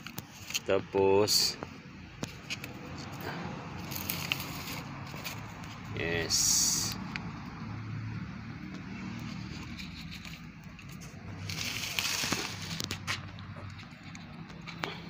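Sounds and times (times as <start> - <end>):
plastic cups and leaves rustling: 0.0 - 7.1, 8.7 - 15.0
vehicle engine rumble: 0.0 - 15.0.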